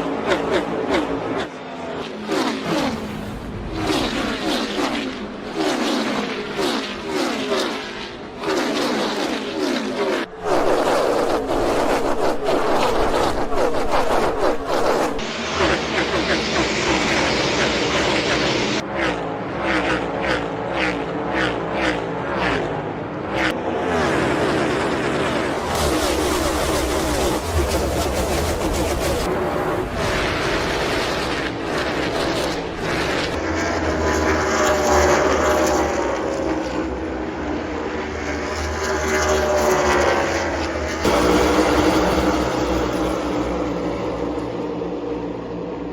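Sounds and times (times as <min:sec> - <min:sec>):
race cars passing at full speed: 0:00.0 - 0:45.9.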